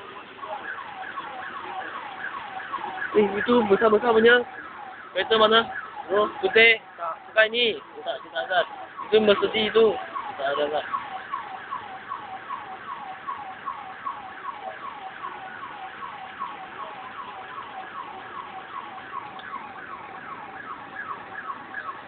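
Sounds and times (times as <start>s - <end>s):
electronic siren wailing: 0.4s - 22.0s.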